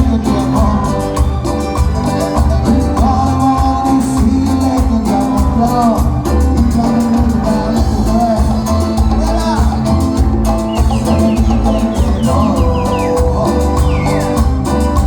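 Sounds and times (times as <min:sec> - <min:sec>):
live band music: 0:00.0 - 0:15.0
person singing: 0:00.0 - 0:15.0
pulsing bass beat: 0:00.0 - 0:15.0.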